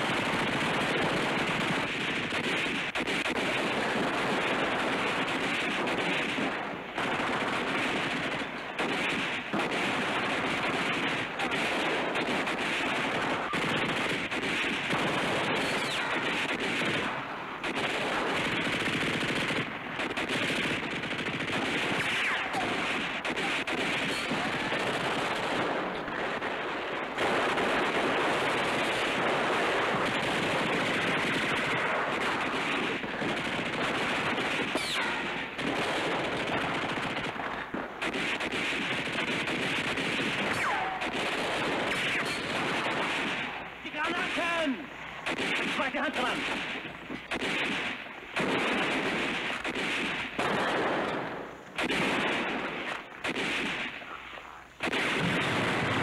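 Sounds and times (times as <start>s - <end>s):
machine-gun bursts: 0.0s - 26.5s, 27.2s - 51.2s
rifle shots: 0.0s - 56.0s.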